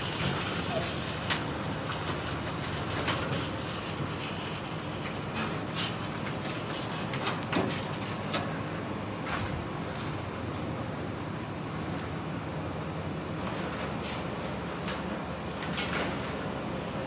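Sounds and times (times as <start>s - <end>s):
dolly casters rolling on concrete: 0.0s - 10.2s, 13.4s - 17.0s.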